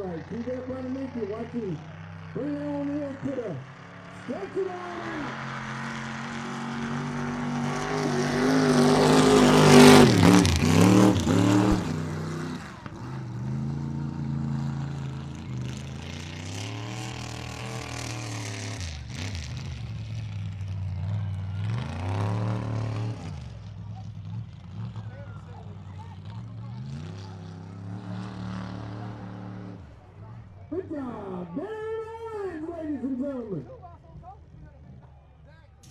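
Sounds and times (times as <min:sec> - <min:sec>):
truck engine revving: 0:00.0 - 0:35.9.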